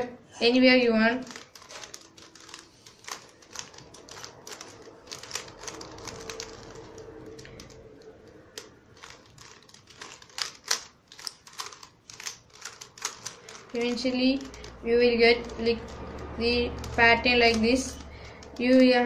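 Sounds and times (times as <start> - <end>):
puzzle cube clicking: 1.2 - 19.0.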